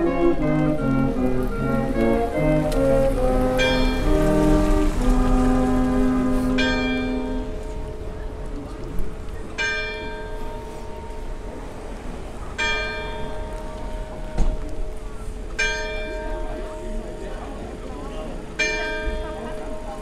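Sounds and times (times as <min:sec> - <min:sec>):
church bell tolling: 0:00.0 - 0:20.0.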